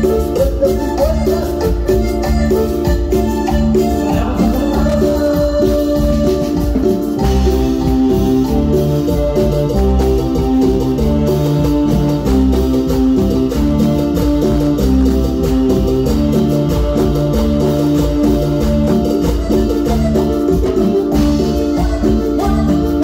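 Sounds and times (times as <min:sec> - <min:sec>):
live band playing latin dance music: 0:00.0 - 0:23.0.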